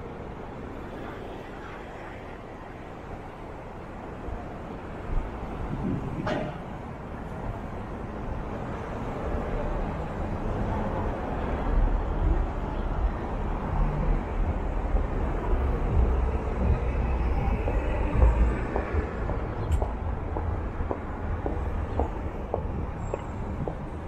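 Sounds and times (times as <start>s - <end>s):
cars driving past: 4.7s - 24.0s.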